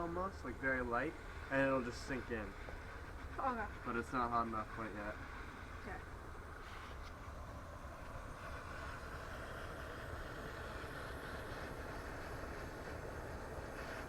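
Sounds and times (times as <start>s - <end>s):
blowtorch flame: 0.0s - 14.0s.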